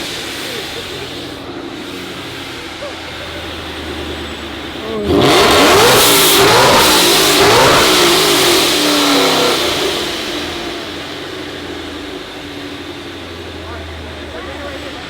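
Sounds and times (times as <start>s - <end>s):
blow-off valve hissing: 0.0s - 15.0s
car engine revving: 0.0s - 15.0s.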